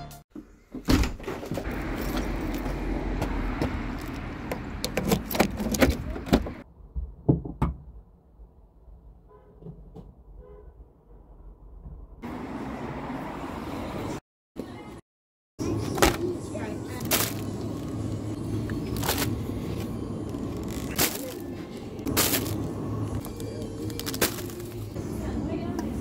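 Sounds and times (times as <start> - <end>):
traffic noise: 1.4 - 6.9, 8.2 - 15.0, 15.6 - 26.0.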